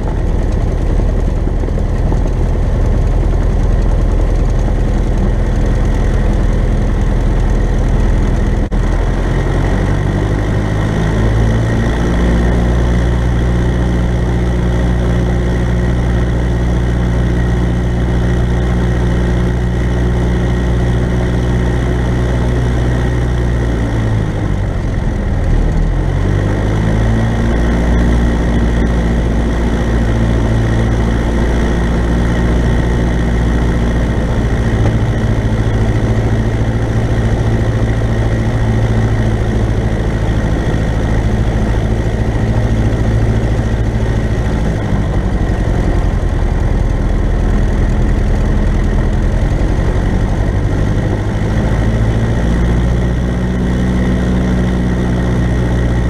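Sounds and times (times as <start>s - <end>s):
aircraft engine and propeller: 0.0s - 56.0s.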